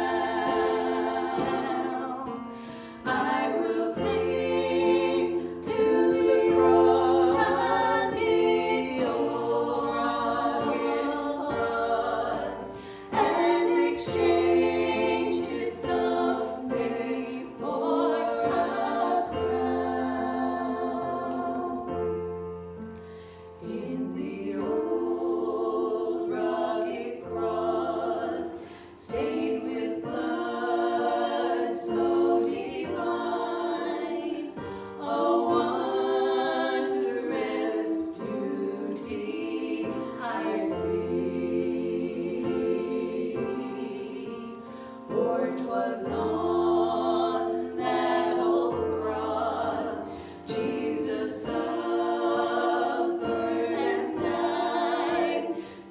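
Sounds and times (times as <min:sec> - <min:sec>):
voices singing worship song: 0:00.0 - 0:55.9.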